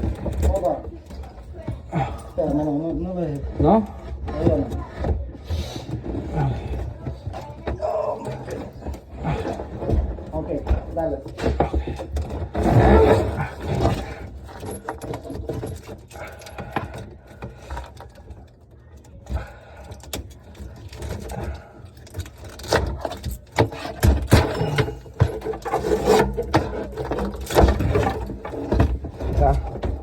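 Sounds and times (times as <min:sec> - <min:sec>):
tools knocking and scraping: 0:00.0 - 0:30.0.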